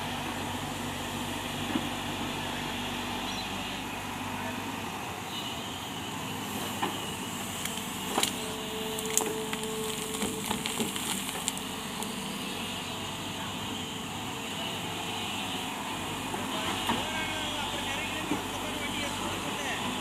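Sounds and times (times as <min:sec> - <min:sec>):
excavator running: 0:00.0 - 0:20.0.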